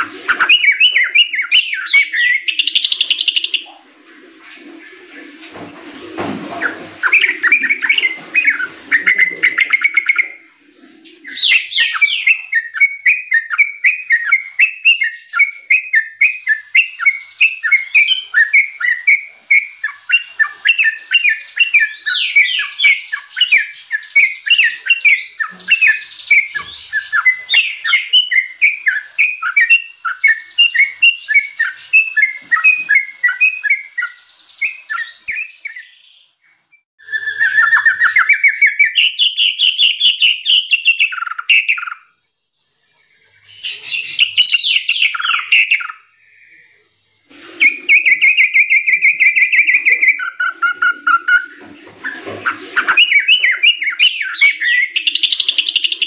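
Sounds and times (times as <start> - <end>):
bird chirping song: 0.0 - 5.3, 6.5 - 42.2, 42.8 - 47.0, 47.6 - 56.0.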